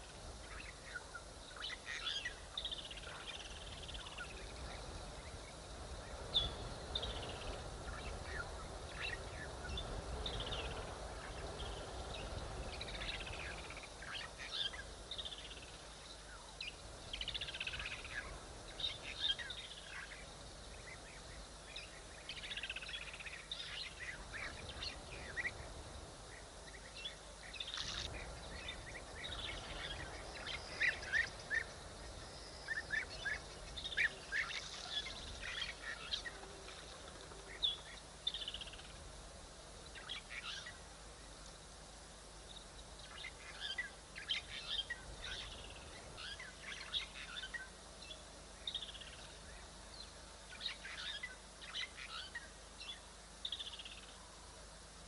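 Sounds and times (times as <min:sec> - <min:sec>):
faint outdoor hiss: 0:00.0 - 0:55.0.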